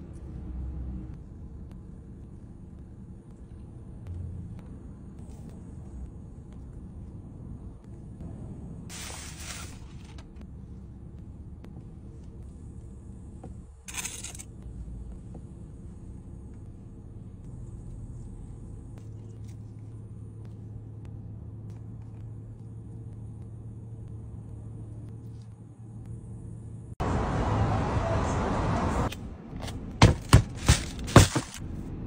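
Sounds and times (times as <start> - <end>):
car engine idling: 0.0 - 27.2
street noise: 0.0 - 32.0.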